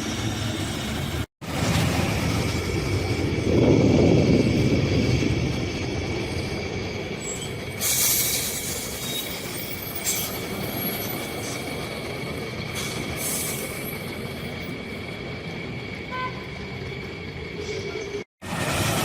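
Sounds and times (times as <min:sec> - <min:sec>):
bus engine and tyre noise: 0:00.0 - 0:19.0.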